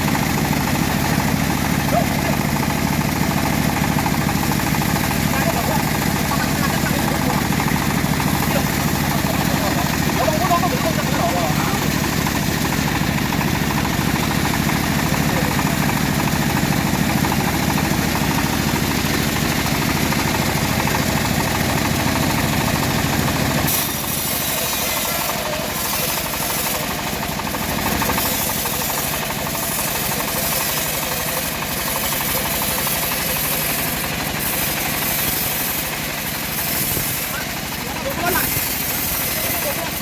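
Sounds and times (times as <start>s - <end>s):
bandsaw mill sawing log: 0.0s - 40.0s.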